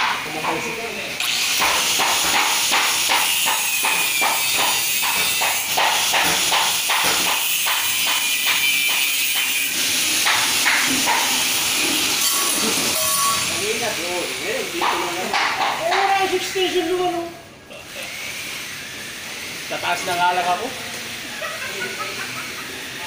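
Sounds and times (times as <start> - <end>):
angle grinder cutting concrete: 0.2 - 15.4, 17.9 - 23.0.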